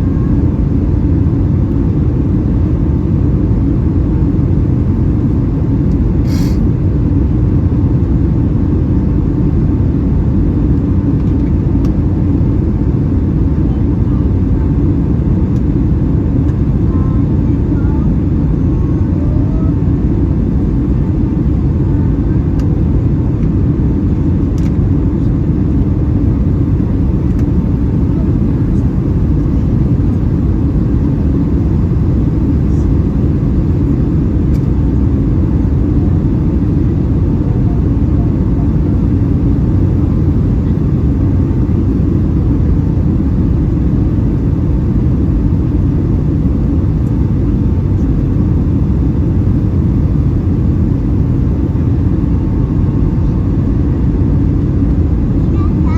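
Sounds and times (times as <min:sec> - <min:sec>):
airliner cabin rumble: 0:00.0 - 0:55.9.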